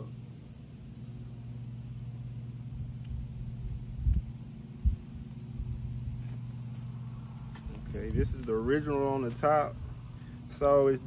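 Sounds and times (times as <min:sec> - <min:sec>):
insects trilling: 0:00.0 - 0:11.0
pulsing insect chirp: 0:00.0 - 0:11.0
steady low hum: 0:00.0 - 0:11.0.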